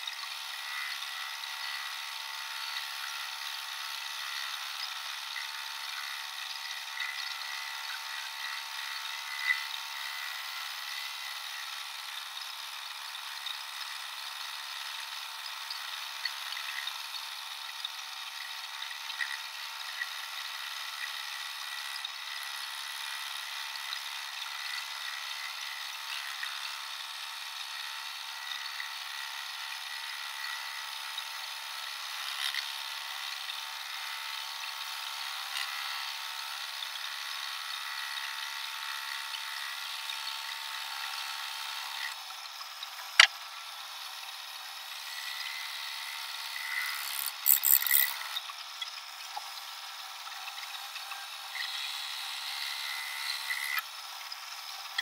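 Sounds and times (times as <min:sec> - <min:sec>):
scroll saw cutting wood: 0:00.0 - 0:55.0.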